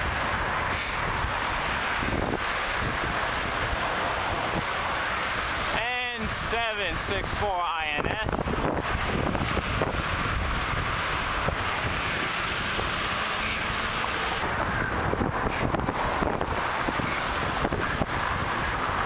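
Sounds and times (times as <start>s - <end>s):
road and traffic rumble: 0.0s - 19.0s
wind on microphone: 0.0s - 19.0s.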